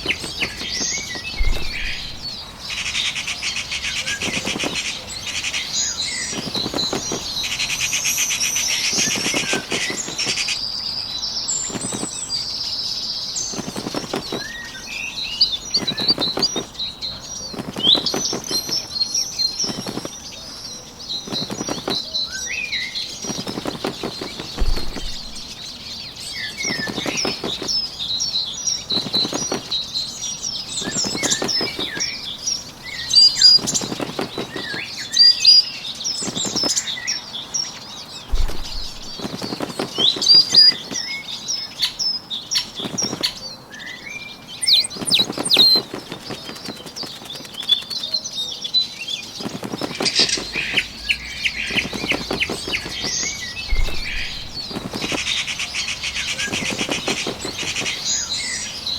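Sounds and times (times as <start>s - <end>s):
bird wings flapping: 0.0s - 10.7s, 11.4s - 37.1s, 38.2s - 43.5s, 44.6s - 48.4s, 49.2s - 58.9s
small birds chirping and singing: 0.0s - 58.9s.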